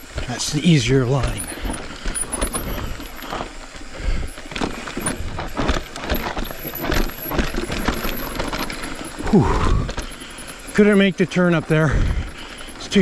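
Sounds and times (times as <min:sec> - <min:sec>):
bike clattering over bumps: 0:00.0 - 0:13.0
tyres rolling over dirt and rocks: 0:00.0 - 0:13.0.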